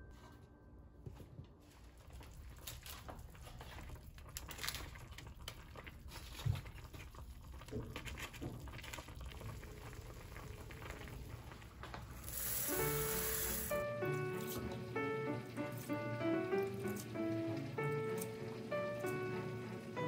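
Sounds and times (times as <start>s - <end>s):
sauce bubbling in a frying pan: 2.0s - 20.0s.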